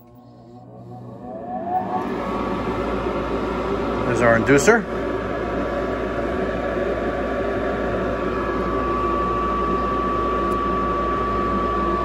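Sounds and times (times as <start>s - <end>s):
furnace motor running: 0.0s - 12.0s
high whine: 0.0s - 12.0s.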